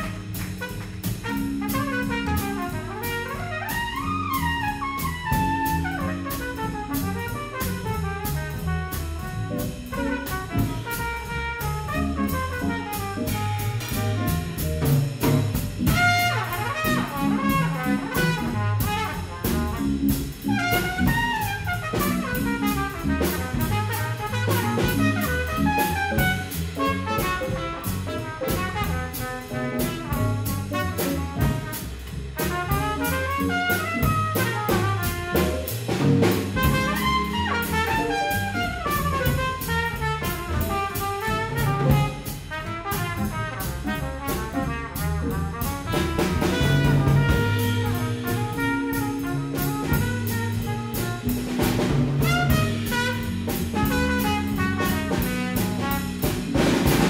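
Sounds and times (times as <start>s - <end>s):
low bass notes: 0.0s - 57.0s
steady tapping beat: 0.0s - 57.0s
trumpet jazz solo: 0.0s - 57.0s.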